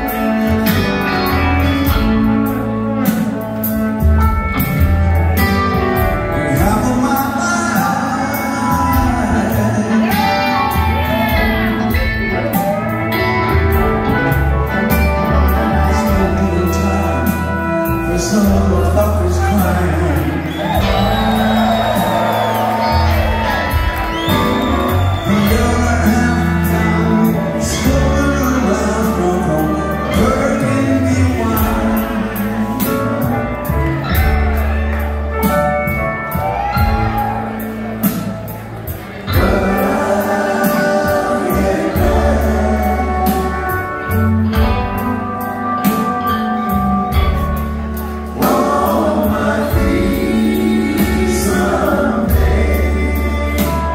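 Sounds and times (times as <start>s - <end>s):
live band playing: 0.0s - 53.9s
person singing: 5.4s - 34.8s, 39.1s - 53.9s.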